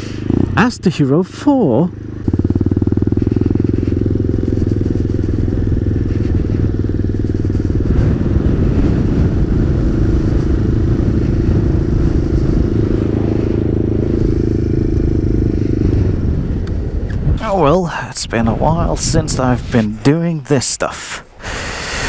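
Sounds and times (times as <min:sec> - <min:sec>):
motorcycle engine running: 0:00.0 - 0:20.1.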